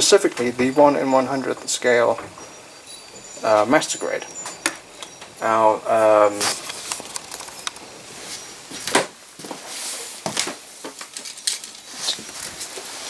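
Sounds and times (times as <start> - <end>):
rustle: 0.2 - 13.0.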